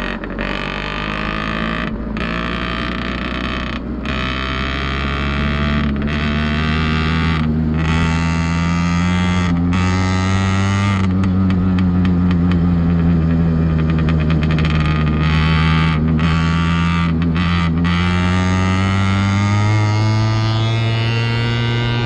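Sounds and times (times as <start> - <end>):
two-stroke engine running under load: 0.0 - 22.0.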